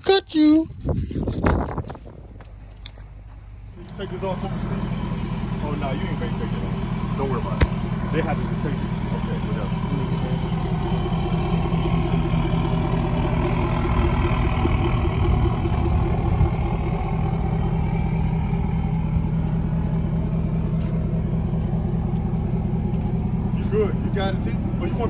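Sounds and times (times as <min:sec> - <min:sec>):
engine running: 0:00.7 - 0:25.0.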